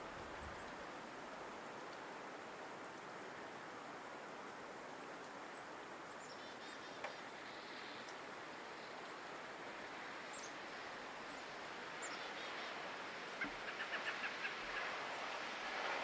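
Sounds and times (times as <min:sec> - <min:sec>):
wind hiss: 0:00.0 - 0:16.0.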